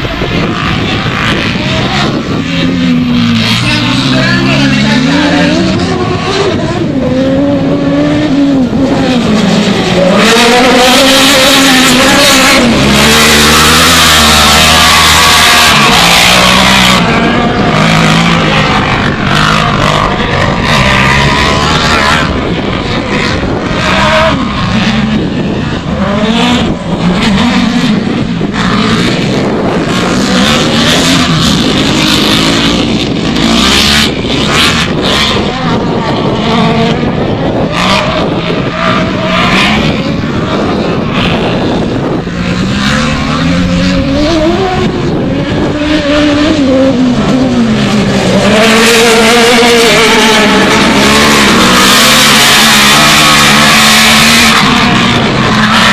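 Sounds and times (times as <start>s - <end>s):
constant rushing noise: 0.0s - 55.9s
race car engines revving: 0.0s - 55.9s.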